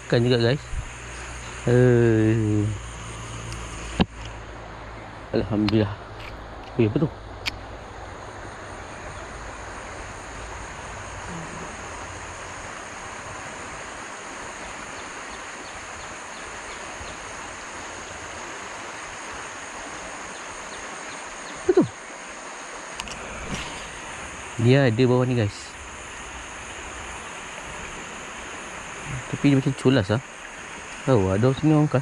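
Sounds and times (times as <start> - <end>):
insect drone: 0.0 - 32.0
outdoor background noise: 0.0 - 32.0.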